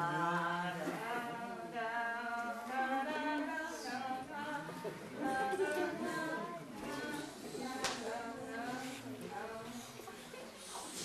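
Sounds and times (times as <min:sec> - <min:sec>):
unaccompanied singing voices: 0:00.0 - 0:10.3.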